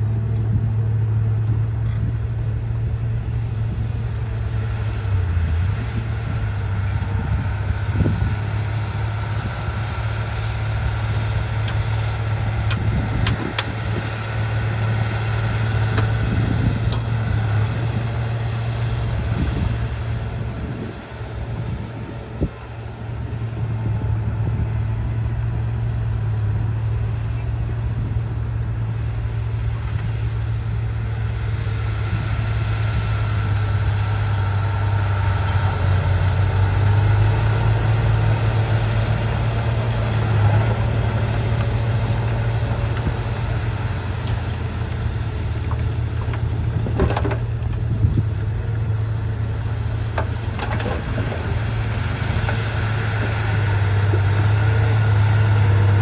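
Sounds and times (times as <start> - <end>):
heavy machine engine humming: 0.0 - 56.0.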